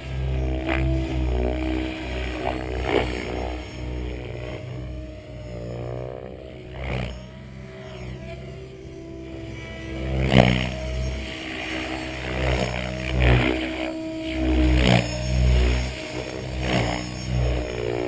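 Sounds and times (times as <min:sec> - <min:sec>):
helicopter rotor hum and motor whine: 0:00.0 - 0:18.0.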